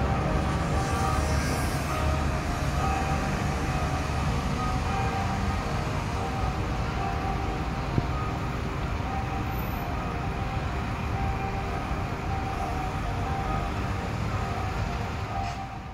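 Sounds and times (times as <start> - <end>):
church bell ringing: 0.0 - 8.5, 9.1 - 15.9.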